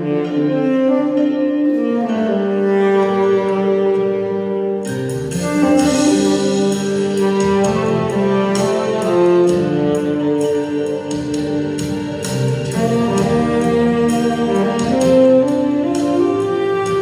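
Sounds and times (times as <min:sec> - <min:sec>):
instrumental music with held notes: 0:00.0 - 0:17.0.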